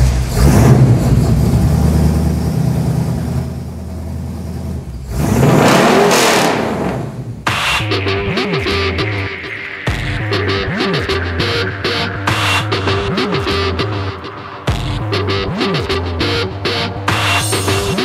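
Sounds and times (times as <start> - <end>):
car engine humming and revving: 0.0 - 18.0.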